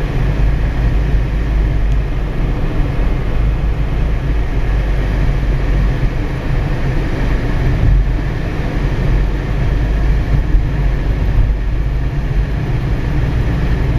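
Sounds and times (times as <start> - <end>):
car road and engine rumble: 0.0 - 13.9.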